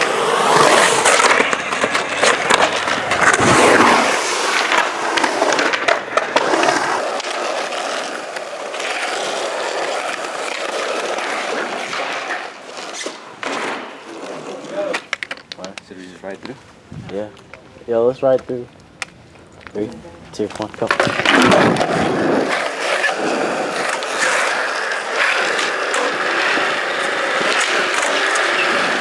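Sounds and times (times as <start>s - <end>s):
skateboard wheels rolling on concrete: 0.0s - 29.0s.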